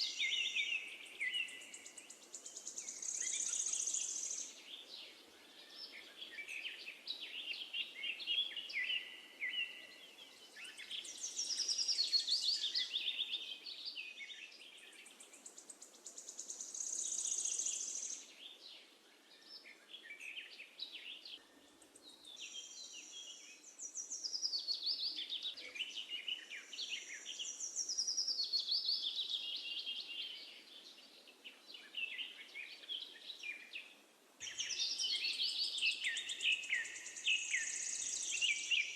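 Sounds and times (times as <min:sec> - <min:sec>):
birds chirping and trilling: 0:00.0 - 0:38.9
faint background hiss: 0:00.0 - 0:38.9.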